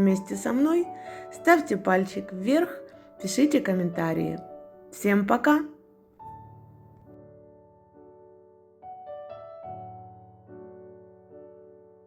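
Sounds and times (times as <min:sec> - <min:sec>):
soft slow piano music: 0:00.0 - 0:12.0.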